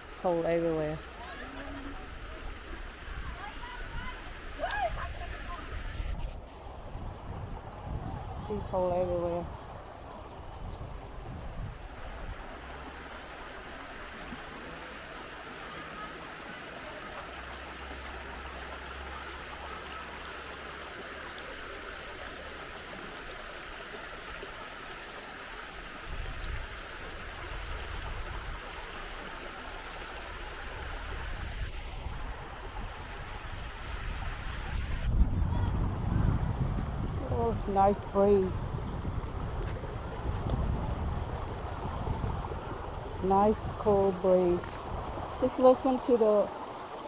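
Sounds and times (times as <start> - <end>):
waterfall rushing and splashing: 0.0 - 6.7, 11.8 - 35.6, 37.2 - 47.0.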